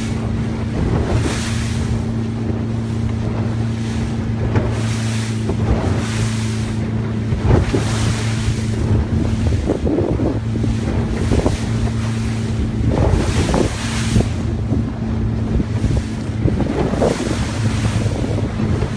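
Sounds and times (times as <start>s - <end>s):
boat engine humming: 0.0s - 18.9s
rushing water: 0.0s - 18.9s
water splashes: 0.0s - 18.9s
wind buffeting microphone: 0.0s - 18.9s.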